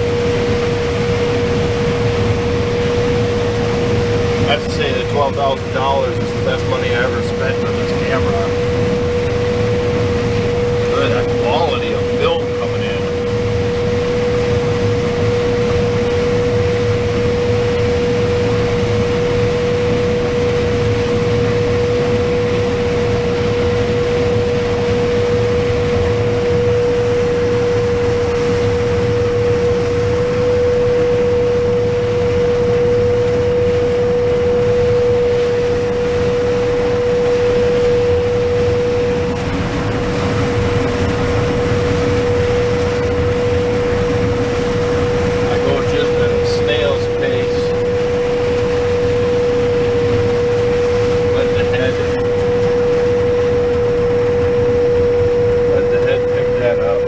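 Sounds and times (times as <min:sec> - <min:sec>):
constant whine: 0:00.0 - 0:57.0
machine low rumble: 0:00.0 - 0:57.0.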